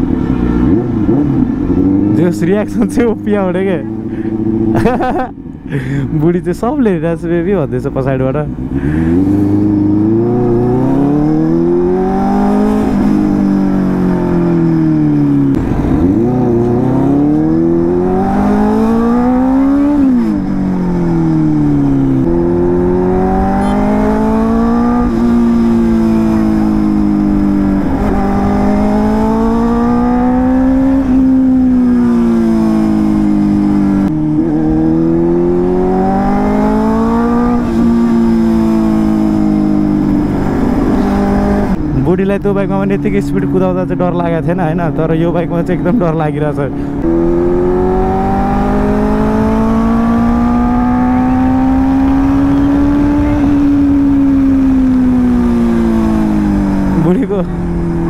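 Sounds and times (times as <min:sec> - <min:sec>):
motorcycle engine accelerating: 0:00.0 - 0:05.4, 0:08.4 - 0:58.0.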